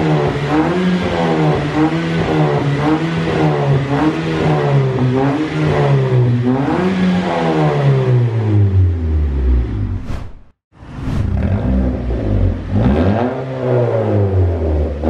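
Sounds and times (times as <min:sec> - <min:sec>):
car engine revving: 0:00.0 - 0:10.1, 0:10.9 - 0:15.0.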